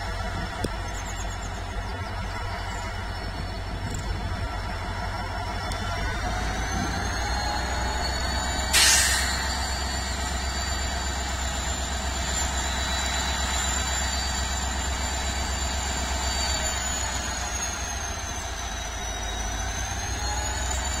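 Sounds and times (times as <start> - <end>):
locomotive diesel engine idling: 0.0 - 21.0.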